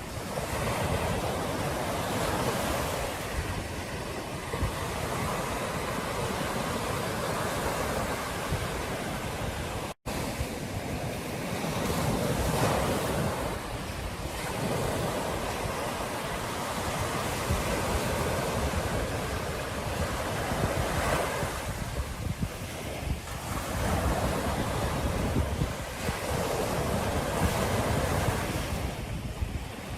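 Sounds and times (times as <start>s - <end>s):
surf breaking on beach: 0.0s - 29.9s
wind buffeting microphone: 0.0s - 29.9s.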